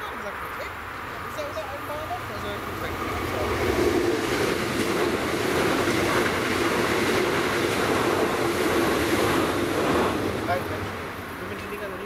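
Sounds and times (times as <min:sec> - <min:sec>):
train wheels rushing on rails: 0:01.0 - 0:12.0.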